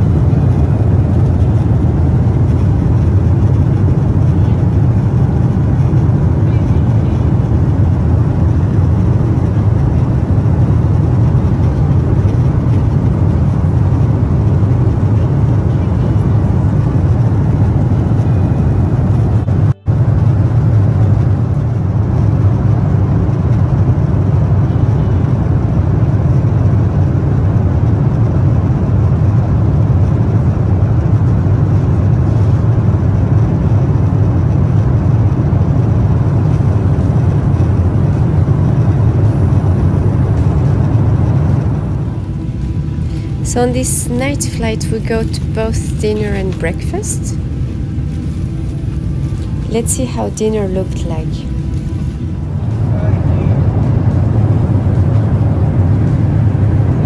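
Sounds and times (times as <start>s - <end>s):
airplane cabin drone: 0.0s - 57.0s.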